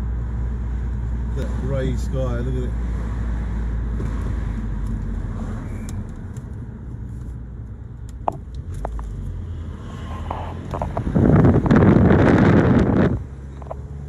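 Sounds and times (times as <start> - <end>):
car rumbling while driving: 0.0 - 14.0.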